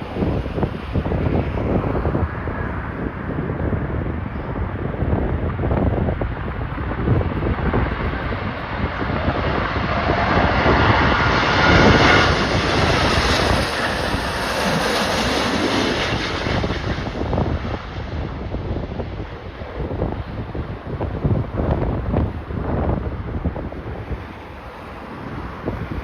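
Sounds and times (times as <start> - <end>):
jet airliner passing close: 0.0 - 26.0
wind buffeting microphone: 0.0 - 26.0.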